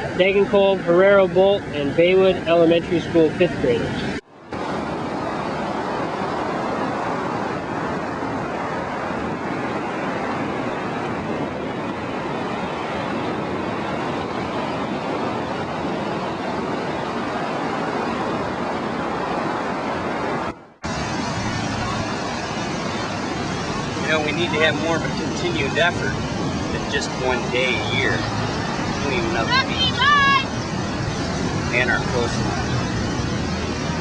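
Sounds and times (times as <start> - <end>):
ocean surf: 0.0 - 34.0.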